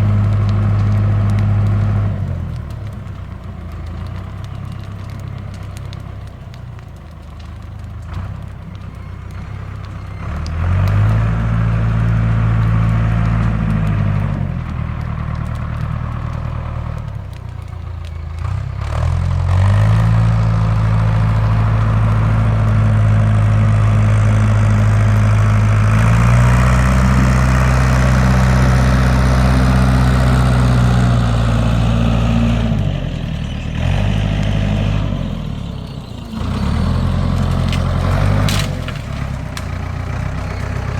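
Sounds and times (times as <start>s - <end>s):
engine revving and idling: 0.0s - 3.0s, 7.4s - 17.4s, 18.3s - 40.9s.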